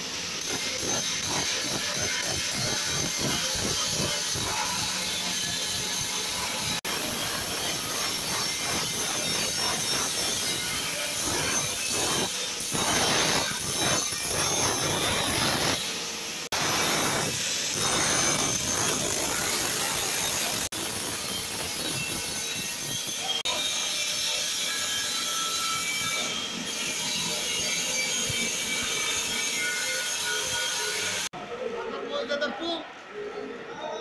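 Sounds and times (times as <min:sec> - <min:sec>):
angle grinder cutting steel: 0:00.0 - 0:31.3.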